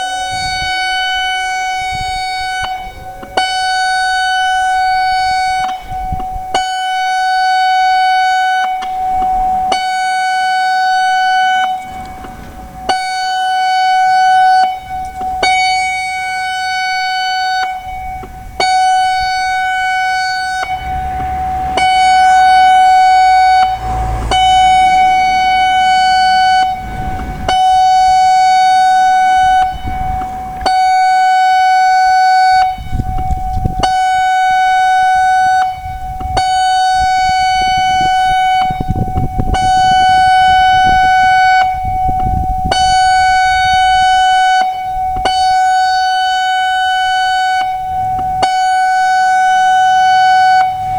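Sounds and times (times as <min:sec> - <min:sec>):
high steady warning siren: 0:00.0 - 0:50.9.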